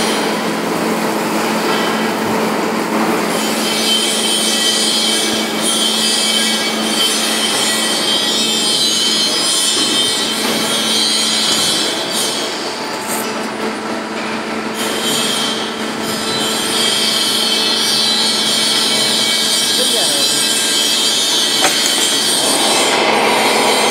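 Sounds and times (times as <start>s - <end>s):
lathe low hum: 0.0s - 23.9s.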